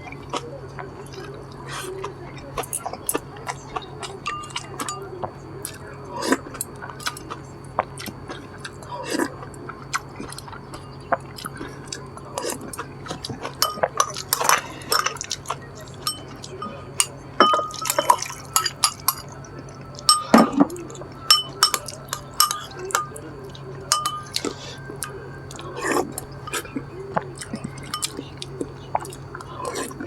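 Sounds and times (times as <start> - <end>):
utensils clinking against bowls: 1.1 - 30.0
slurping and chewing: 5.6 - 30.0.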